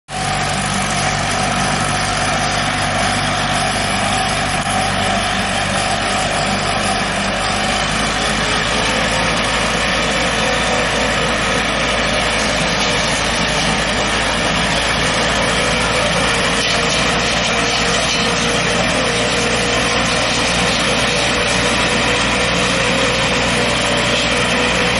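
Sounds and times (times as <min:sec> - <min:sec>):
saw discs trimming trees: 0:00.1 - 0:24.9
tractor engine running: 0:00.1 - 0:24.9.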